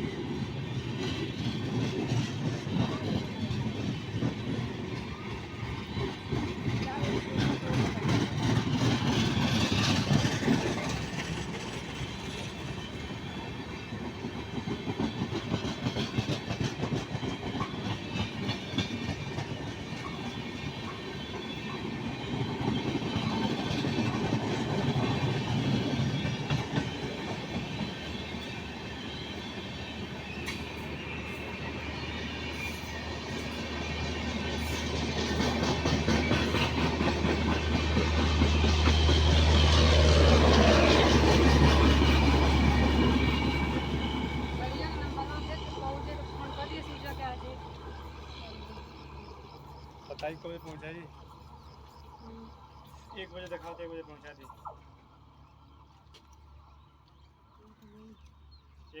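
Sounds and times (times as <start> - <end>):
train wheels clattering on rails: 0.0 - 58.4.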